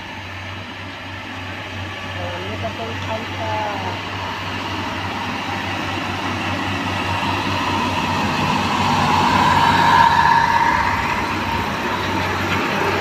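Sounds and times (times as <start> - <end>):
high whine: 0.0 - 13.0
rail machine engine passing: 0.0 - 13.0.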